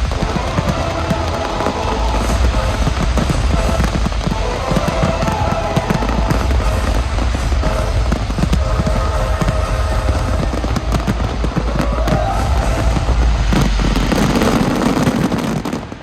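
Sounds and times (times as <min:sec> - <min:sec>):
deep rumble: 0:00.0 - 0:16.0
fireworks crackling bangs: 0:00.0 - 0:16.0
music playing: 0:00.0 - 0:16.0.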